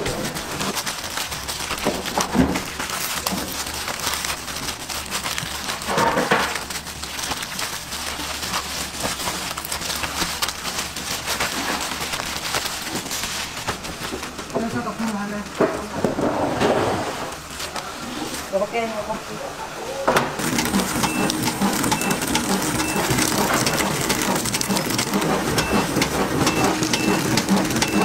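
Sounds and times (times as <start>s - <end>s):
plastic crinkling and rustling: 0.0s - 19.3s, 20.4s - 28.0s.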